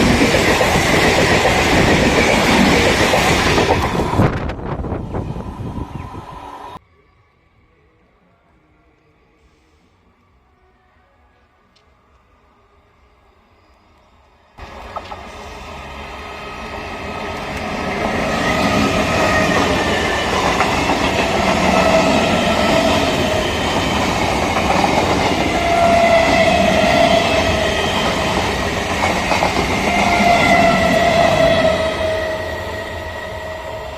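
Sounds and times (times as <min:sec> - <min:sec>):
train passing close by: 0:00.0 - 0:06.8, 0:07.5 - 0:33.9.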